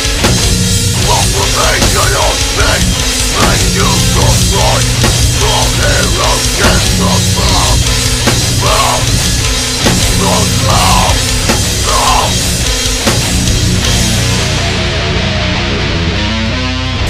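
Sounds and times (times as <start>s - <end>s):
bass guitar: 0.0s - 17.0s
distorted guitars: 0.0s - 17.0s
drum kit: 0.0s - 17.0s.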